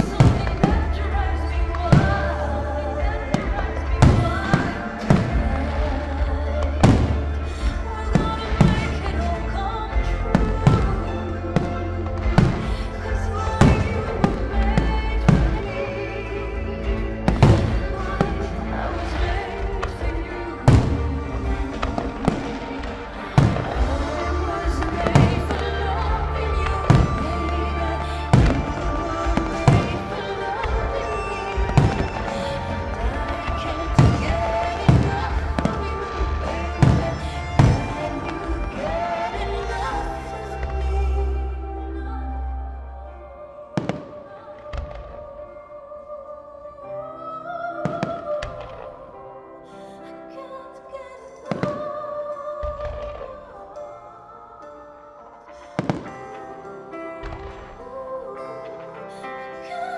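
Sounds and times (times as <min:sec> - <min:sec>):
music over loudspeakers: 0:00.0 - 0:59.9.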